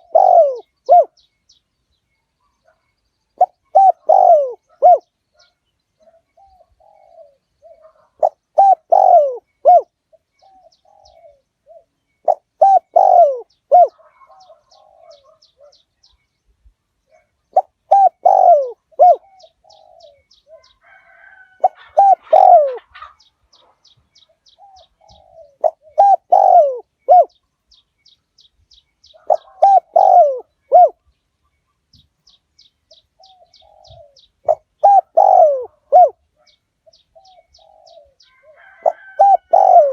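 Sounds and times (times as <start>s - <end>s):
dove cooing: 0.0s - 1.2s, 3.4s - 15.8s, 17.1s - 27.4s, 29.0s - 31.0s, 32.9s - 39.9s.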